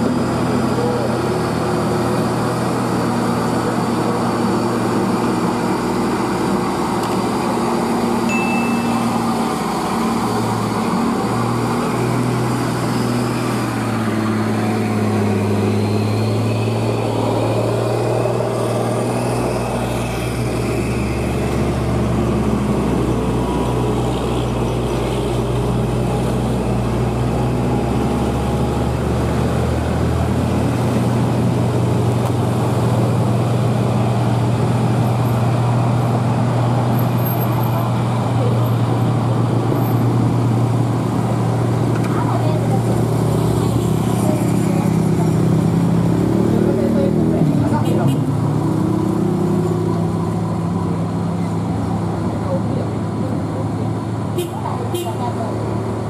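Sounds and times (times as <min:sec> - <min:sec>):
diesel truck engine labouring: 0:00.0 - 0:56.0
traffic engines: 0:00.0 - 0:56.0.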